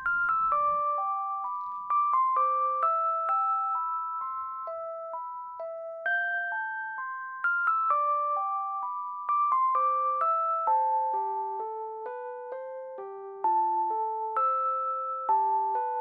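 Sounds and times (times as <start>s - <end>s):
gentle single-note melody: 0.0s - 16.0s.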